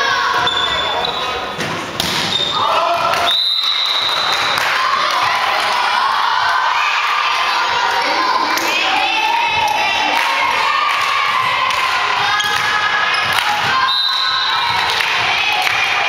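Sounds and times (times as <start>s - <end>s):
crowd shouting and cheering: 0.0s - 16.0s.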